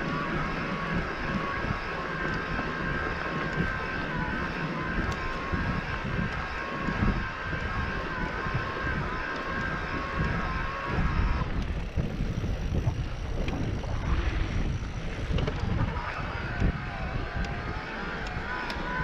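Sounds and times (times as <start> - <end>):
bike tyres rumbling on trail: 0.0 - 19.0
high whine: 0.0 - 19.0
wind buffeting microphone: 0.0 - 19.0.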